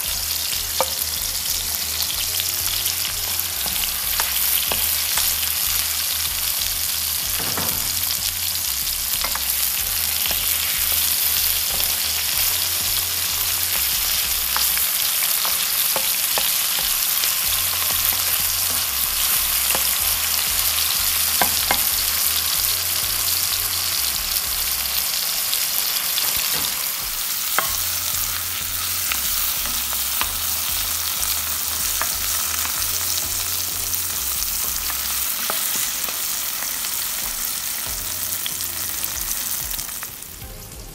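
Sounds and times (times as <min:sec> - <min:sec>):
vegetables sizzling in hot oil: 0:00.0 - 0:40.5.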